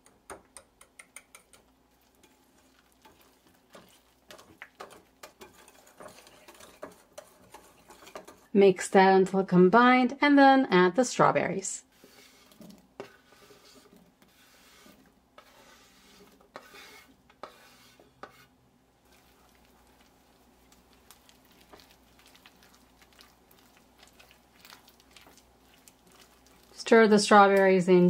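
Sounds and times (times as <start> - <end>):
stirring thick batter in a bowl: 0.0 - 8.6, 11.8 - 27.8.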